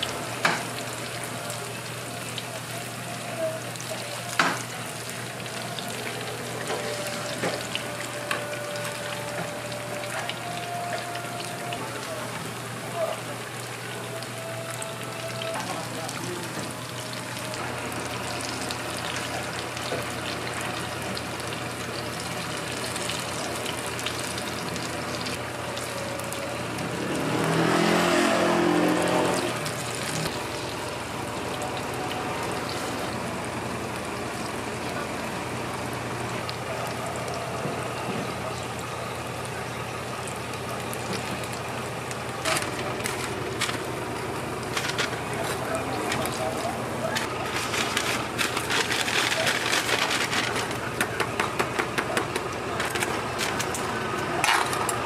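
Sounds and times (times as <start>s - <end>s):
food deep-frying in hot oil: 0.0s - 55.0s.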